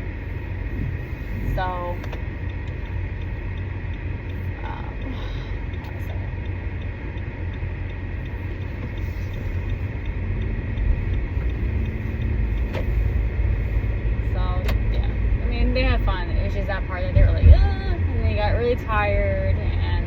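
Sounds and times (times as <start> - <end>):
car road noise rumble: 0.0 - 20.0
turn signal ticking: 0.0 - 20.0.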